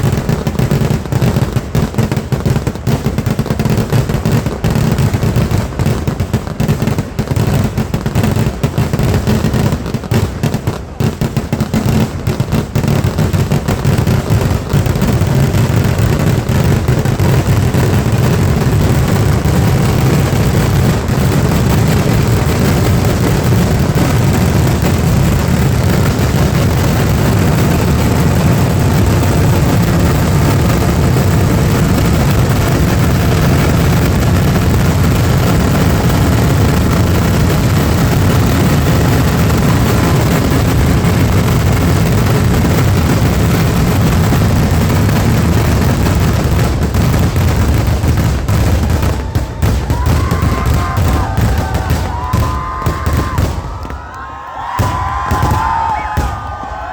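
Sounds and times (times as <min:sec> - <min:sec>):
fireworks barrage rumbling: 0:00.0 - 0:56.9.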